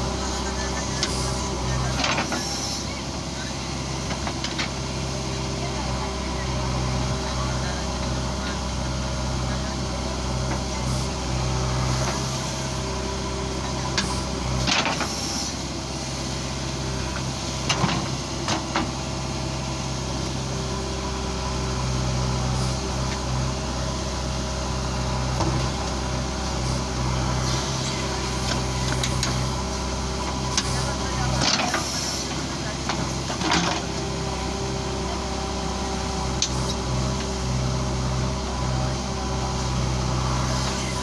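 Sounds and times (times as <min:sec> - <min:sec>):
diesel machinery engine running: 0:00.0 - 0:41.0.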